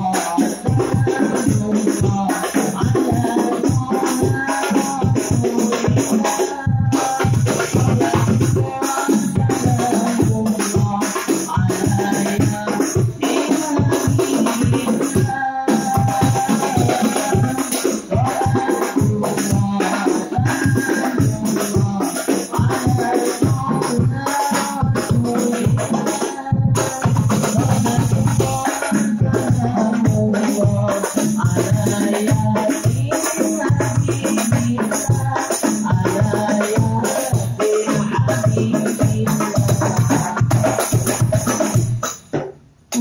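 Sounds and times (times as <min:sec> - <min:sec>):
man singing through microphone: 0:00.0 - 0:41.2
frame drums playing fast rhythm: 0:00.0 - 0:43.0.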